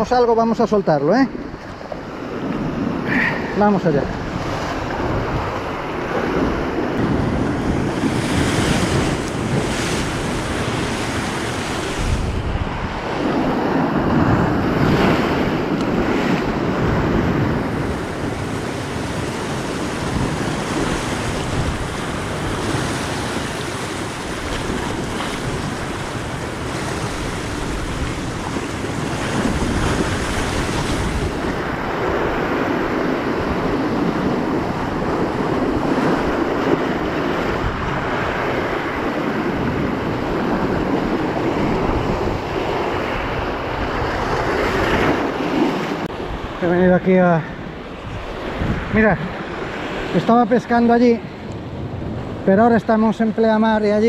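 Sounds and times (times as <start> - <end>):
wind buffeting microphone: 0.0 - 54.0
surf breaking on rocks: 1.8 - 52.4.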